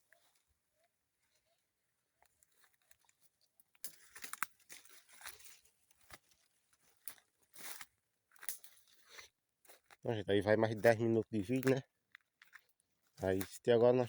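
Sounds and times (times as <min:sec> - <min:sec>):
dry leaves and twigs crunching: 0:02.2 - 0:14.0.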